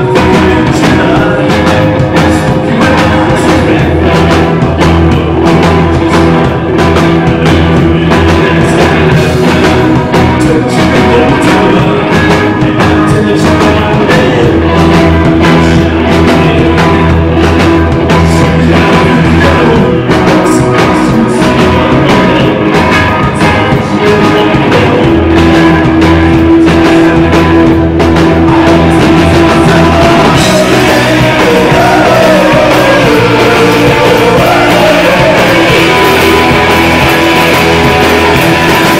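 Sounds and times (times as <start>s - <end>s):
live rock band: 0.0s - 38.9s
person singing: 0.0s - 38.9s.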